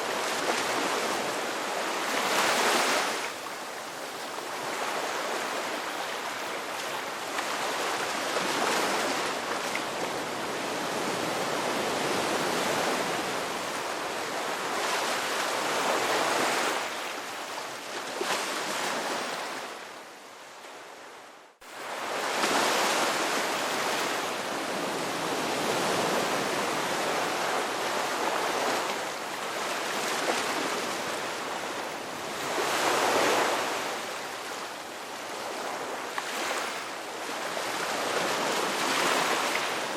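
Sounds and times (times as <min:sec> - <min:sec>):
sea waves breaking: 0:00.0 - 0:19.8, 0:21.0 - 0:39.9.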